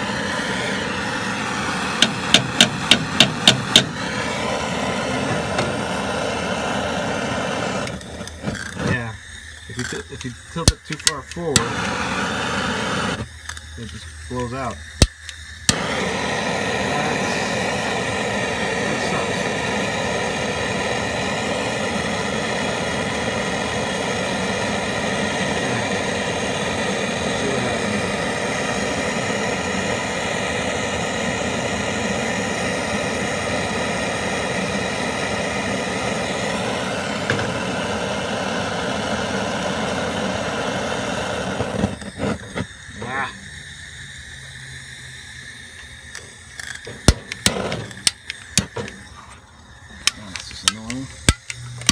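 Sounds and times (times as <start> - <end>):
torch igniter clicking: 0.0 - 42.9, 43.5 - 49.2, 49.9 - 51.9
torch flame hissing: 0.0 - 51.9.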